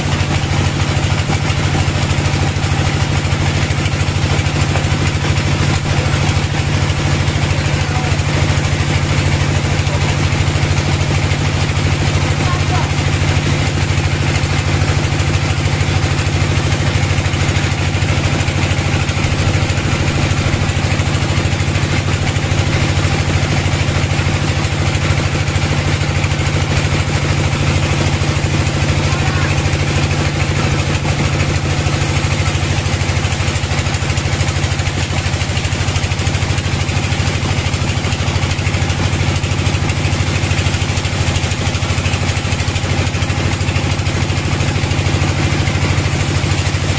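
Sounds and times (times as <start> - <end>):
bandsaw cutting through log: 3.8 - 24.0, 26.5 - 46.9.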